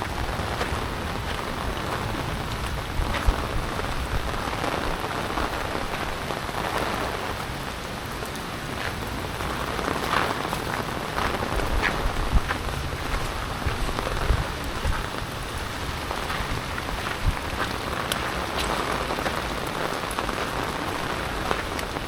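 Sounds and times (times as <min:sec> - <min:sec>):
heavy rain falling: 0:00.0 - 0:22.0
loud raindrops striking close by: 0:00.0 - 0:22.0.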